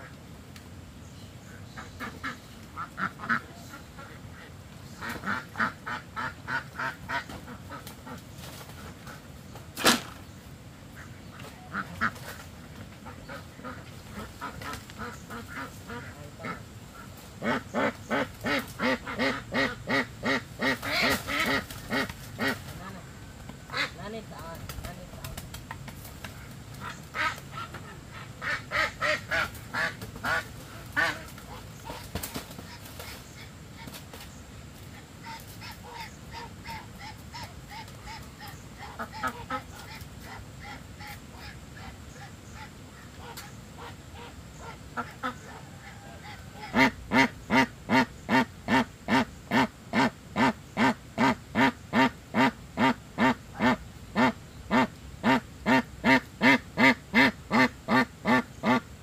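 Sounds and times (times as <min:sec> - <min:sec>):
ducks quacking: 0:01.4 - 0:09.3, 0:10.9 - 0:12.4, 0:13.0 - 0:25.4, 0:26.3 - 0:34.0, 0:34.9 - 0:59.0.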